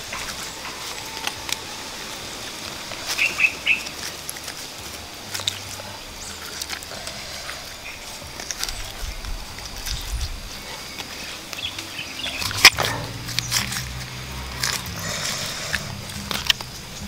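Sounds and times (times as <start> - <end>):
crackling and tearing of meat: 0.0 - 17.0
sharp crack: 0.0 - 17.0.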